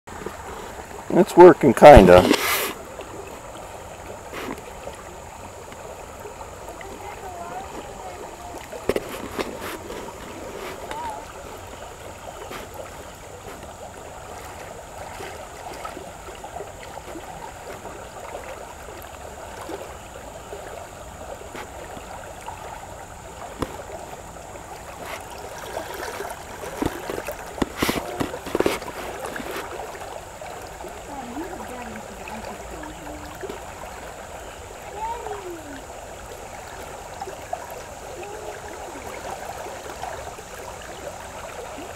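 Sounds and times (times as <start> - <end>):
creek water rushing underwater: 0.1 - 41.9.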